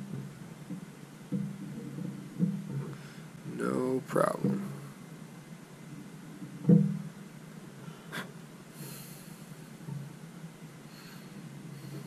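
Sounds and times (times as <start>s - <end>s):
low steady hum: 0.0s - 12.0s
soft hiss: 0.0s - 12.0s.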